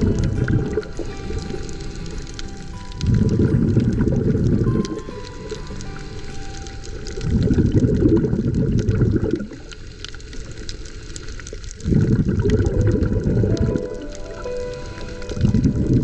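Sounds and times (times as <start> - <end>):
faint crackle of tiny clicks: 0.0 - 16.0
muffled underwater rushing water: 0.0 - 16.0.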